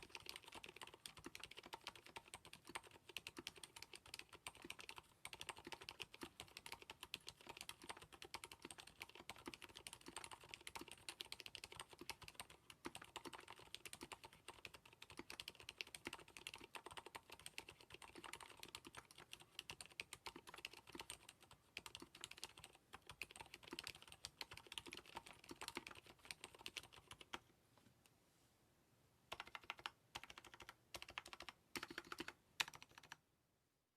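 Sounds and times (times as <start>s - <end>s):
typing on mechanical keyboard: 0.0s - 27.4s, 29.3s - 33.2s.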